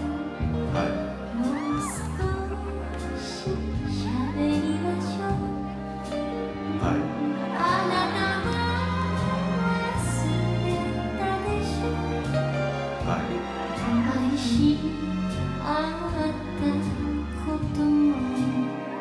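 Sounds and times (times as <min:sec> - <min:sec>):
music with held bass notes: 0:00.0 - 0:19.0.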